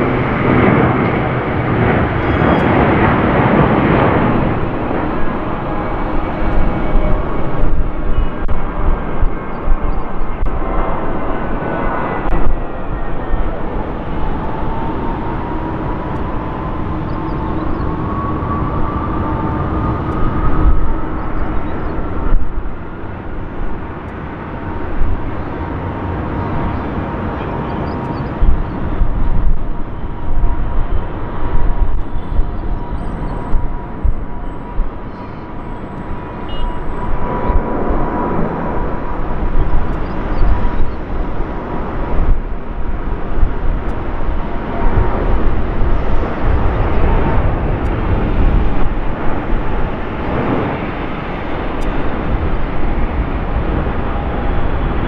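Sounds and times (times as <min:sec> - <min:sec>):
deep rumble: 0:00.0 - 0:55.0
jet engines at takeoff thrust: 0:00.0 - 0:55.0.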